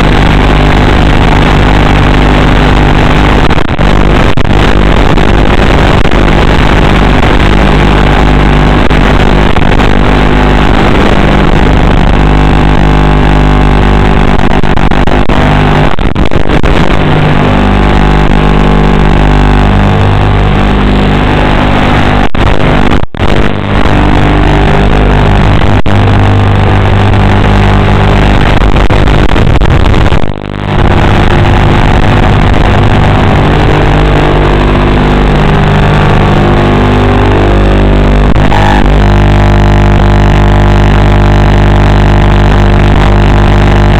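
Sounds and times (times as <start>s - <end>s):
drone propellers buzzing: 0.0s - 43.9s.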